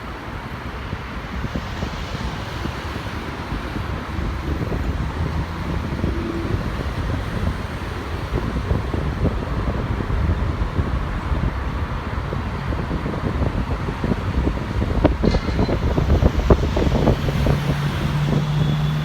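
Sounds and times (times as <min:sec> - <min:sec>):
steady rushing noise: 0:00.0 - 0:19.0
wind buffeting microphone: 0:00.0 - 0:19.0.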